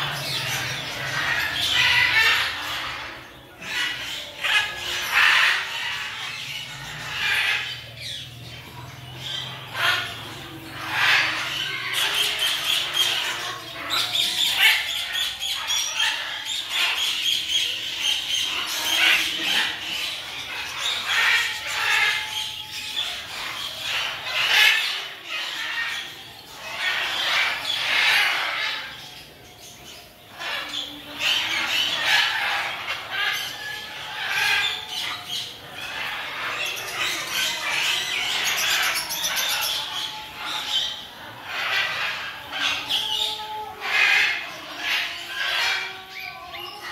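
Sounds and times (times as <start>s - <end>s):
birds squawking and chirping: 0.0s - 46.9s.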